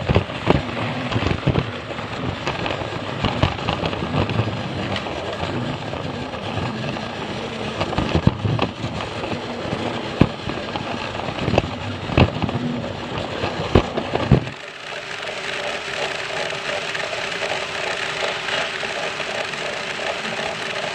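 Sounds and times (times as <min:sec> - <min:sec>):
clicks from rail joints: 0:00.0 - 0:20.9
toy train motor whirring: 0:00.0 - 0:20.9
wheels rattling: 0:00.0 - 0:20.9.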